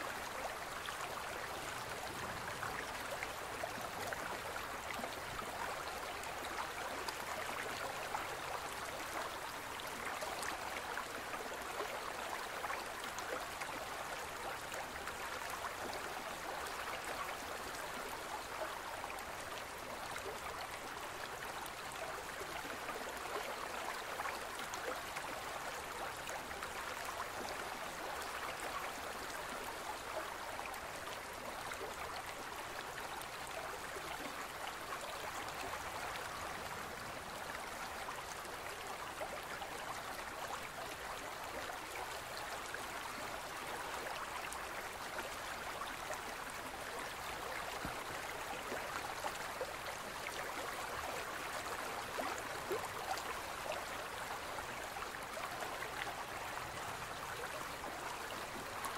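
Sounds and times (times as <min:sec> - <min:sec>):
stream running over rocks: 0:00.0 - 0:58.9.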